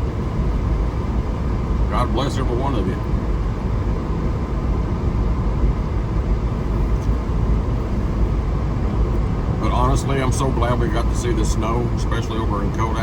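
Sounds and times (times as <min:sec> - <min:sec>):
car road noise inside cabin: 0:00.0 - 0:13.0.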